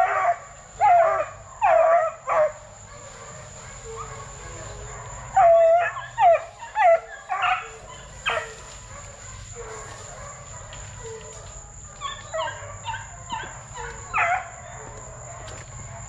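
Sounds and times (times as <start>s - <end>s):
puppies yelping and barking: 0.0s - 16.0s.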